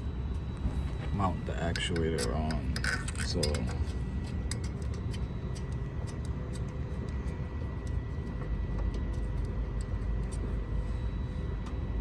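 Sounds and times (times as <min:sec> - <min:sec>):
faint high whine: 0:00.0 - 0:06.7, 0:07.5 - 0:12.0
steady low rumble: 0:00.0 - 0:12.0.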